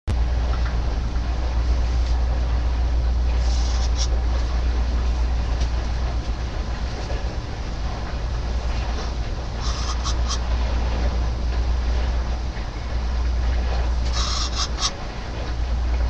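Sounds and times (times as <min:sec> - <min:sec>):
heavy machinery rumbling: 0:00.1 - 0:16.0.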